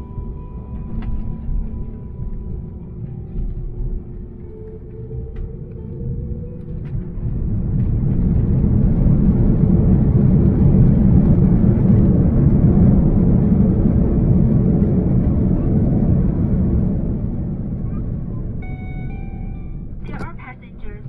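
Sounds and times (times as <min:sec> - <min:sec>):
airplane landing rumble: 0:00.0 - 0:21.0.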